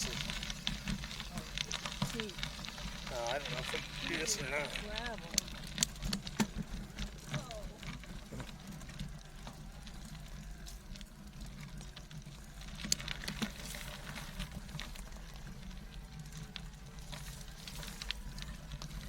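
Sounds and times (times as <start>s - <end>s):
bicycle tyres rolling over gravel: 0.0s - 19.0s
stones crackling and ticking: 0.0s - 19.0s.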